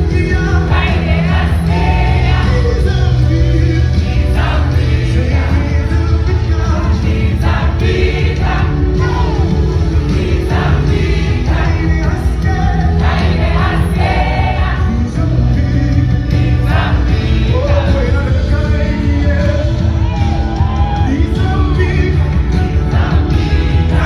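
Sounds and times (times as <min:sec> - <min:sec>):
choir singing with heavy bass: 0:00.0 - 0:24.0.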